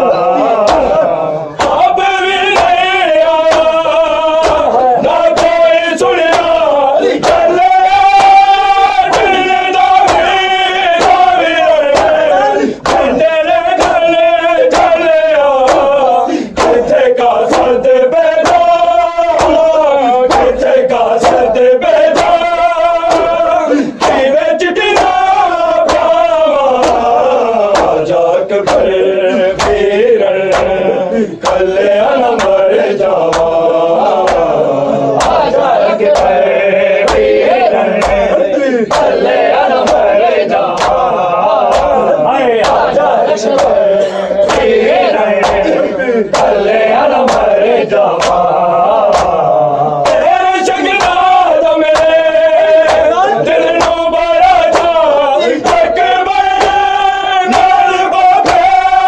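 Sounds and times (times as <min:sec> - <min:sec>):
men chanting a lament: 0:00.0 - 0:59.0
sharp rhythmic chest beats: 0:00.0 - 0:59.0.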